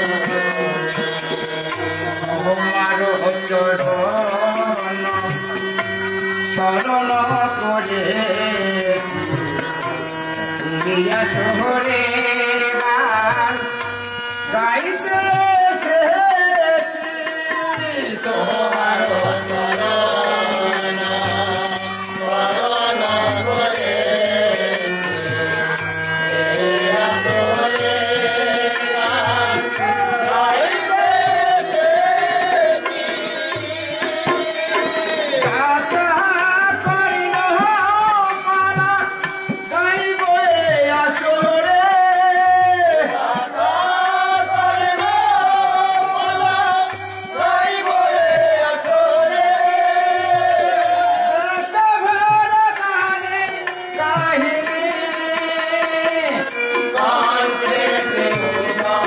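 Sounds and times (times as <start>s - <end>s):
harmonium chords: 0.0s - 59.0s
men singing: 0.0s - 59.0s
rattling hand percussion: 0.0s - 59.0s.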